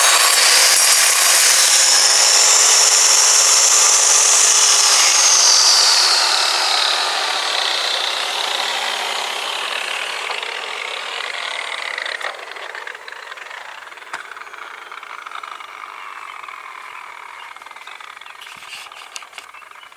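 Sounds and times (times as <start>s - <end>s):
angle grinder on stone: 0.0s - 19.5s.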